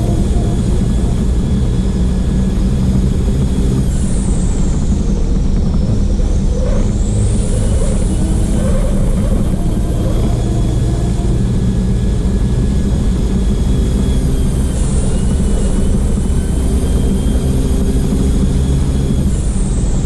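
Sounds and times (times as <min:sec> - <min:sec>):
faint high whine: 0:00.0 - 0:20.0
truck diesel engine under load: 0:00.0 - 0:20.0
wind and road noise: 0:00.0 - 0:20.0.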